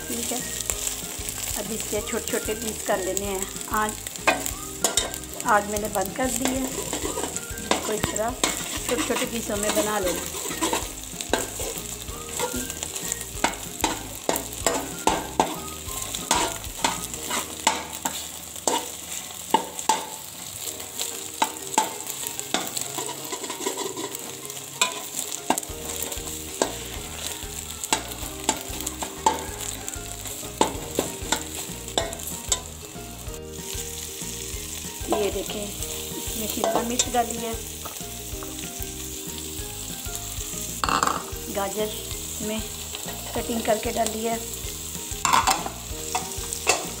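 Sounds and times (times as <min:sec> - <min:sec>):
pan sizzling: 0:00.0 - 0:47.0
metal spoon scraping a metal pan: 0:00.2 - 0:20.2, 0:21.2 - 0:32.8, 0:33.6 - 0:38.5, 0:40.7 - 0:47.0.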